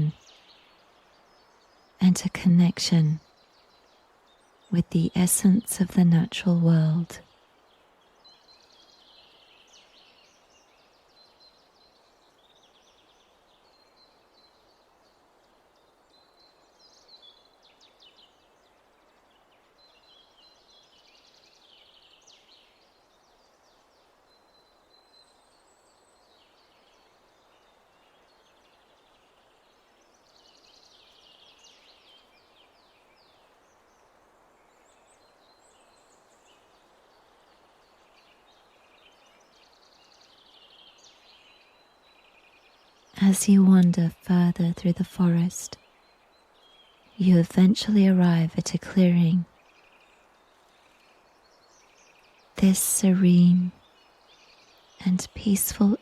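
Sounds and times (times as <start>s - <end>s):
small birds chirping and trilling: 0.0s - 56.0s
soft steady background hiss: 0.0s - 56.0s.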